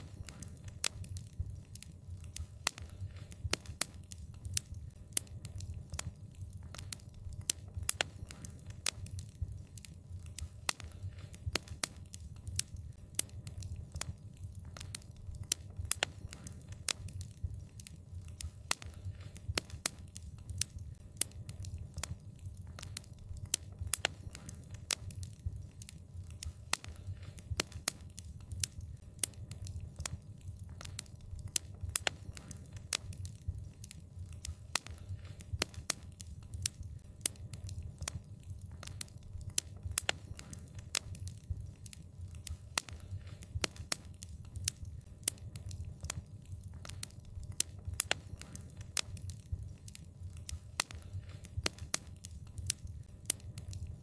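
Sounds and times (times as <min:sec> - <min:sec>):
fire pops and snaps: 0:00.0 - 0:54.0
low rumble of burning fire: 0:00.0 - 0:54.0.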